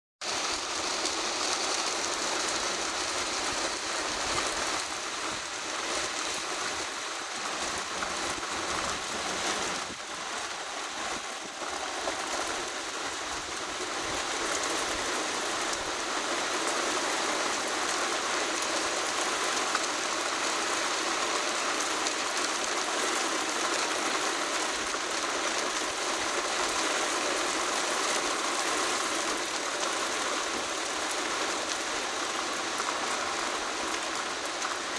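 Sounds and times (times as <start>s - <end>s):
rain pattering on surfaces: 0.2s - 34.9s.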